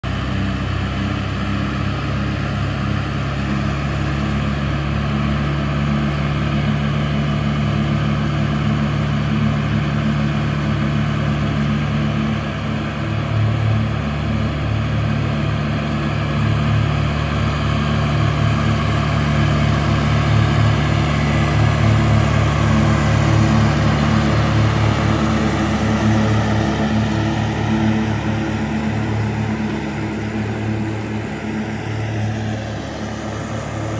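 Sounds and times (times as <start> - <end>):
tractor engine droning: 0.0 - 33.9.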